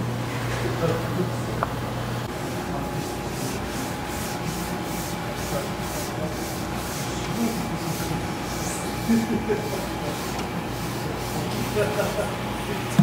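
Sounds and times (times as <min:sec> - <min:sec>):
machine faint hum: 0:00.0 - 0:13.0.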